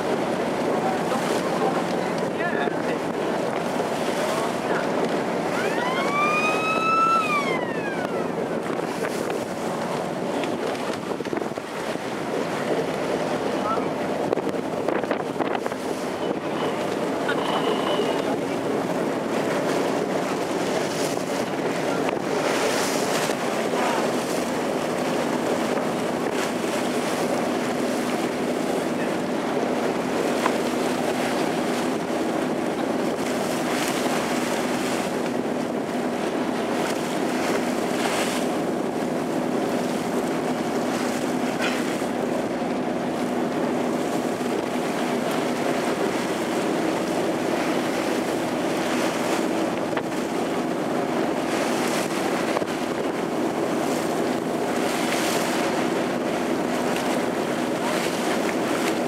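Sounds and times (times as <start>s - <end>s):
motorboat engine humming: 0.0s - 59.0s
water splashes: 0.0s - 59.0s
water spray rushing along hull: 0.0s - 59.0s
wind buffeting microphone: 0.0s - 59.0s.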